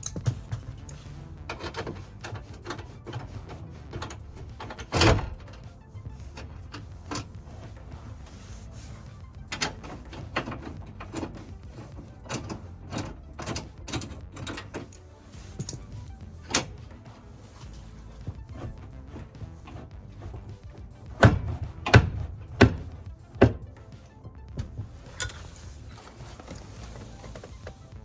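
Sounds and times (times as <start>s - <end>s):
hand tools clicking on metal: 0.0s - 7.5s, 9.4s - 25.6s.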